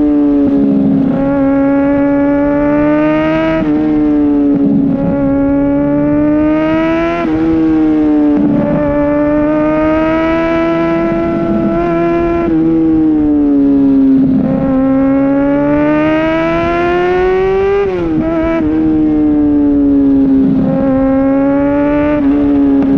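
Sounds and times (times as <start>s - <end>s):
sport motorcycle engine revving: 0.0s - 22.9s.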